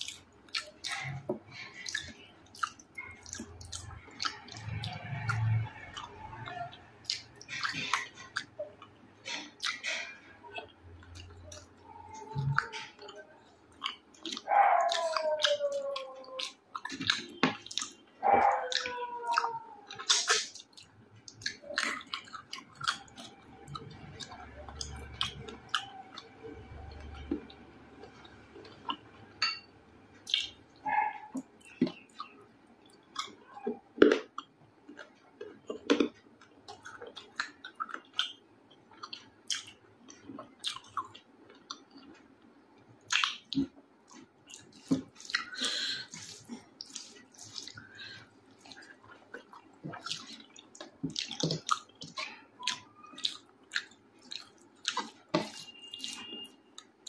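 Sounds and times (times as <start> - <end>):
wet chewing: 0.0 - 29.6, 30.2 - 42.4, 43.0 - 57.0.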